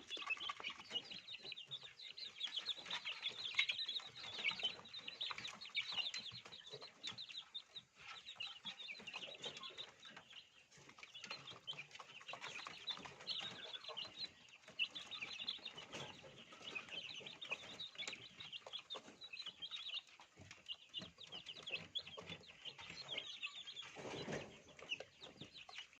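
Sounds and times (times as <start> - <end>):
chickens peeping: 0.0 - 26.0.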